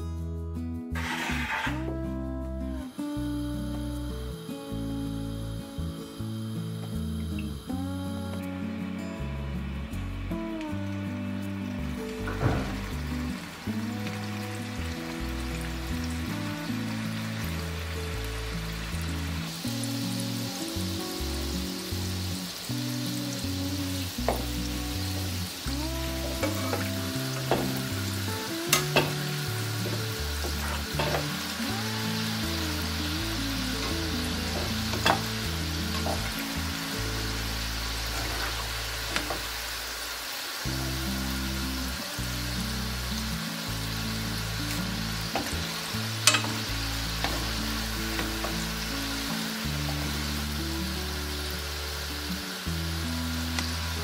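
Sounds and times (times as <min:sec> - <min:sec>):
soft music with slow bass: 0:00.0 - 0:54.0
dough deep-frying sizzle: 0:09.4 - 0:54.0.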